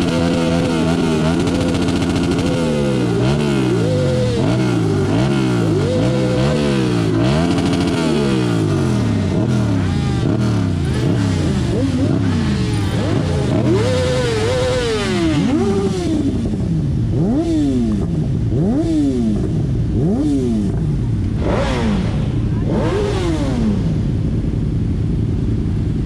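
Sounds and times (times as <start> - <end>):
vehicle engine revving: 0.0 - 24.5
engines idling: 0.0 - 26.0.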